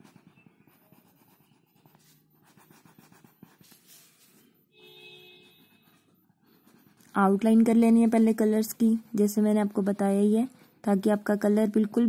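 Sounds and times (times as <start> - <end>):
marker scratching on paper: 0.0 - 12.0.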